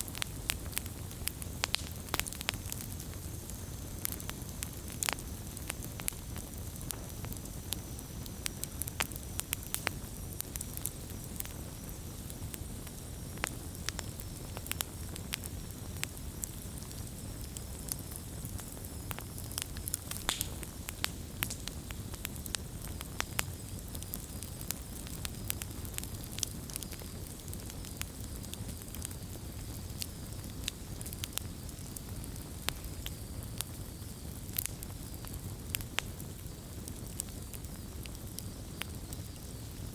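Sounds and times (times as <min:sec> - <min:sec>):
bonfire crackling and popping: 0:00.0 - 0:39.9
low rush of flame: 0:00.0 - 0:39.9.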